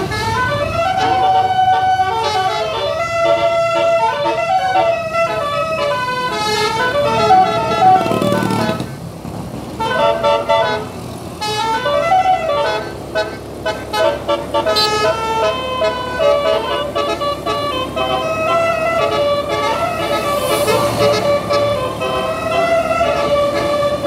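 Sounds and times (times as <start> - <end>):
bus air horns playing a tune: 0.0 - 24.0.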